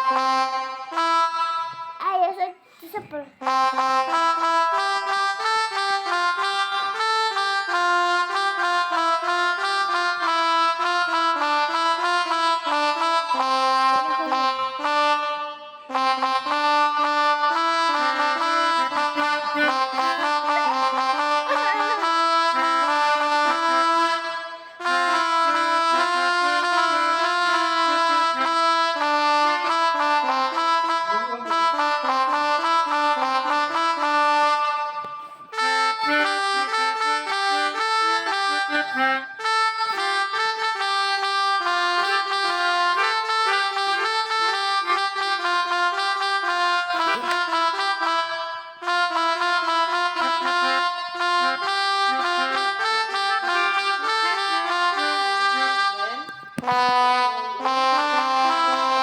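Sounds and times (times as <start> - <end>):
melodica playing held notes: 0.0 - 59.0.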